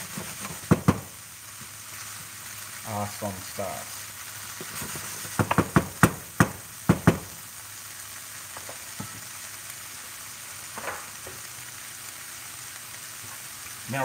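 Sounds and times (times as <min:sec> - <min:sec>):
vegetables sizzling in a frying pan: 0:00.0 - 0:14.0.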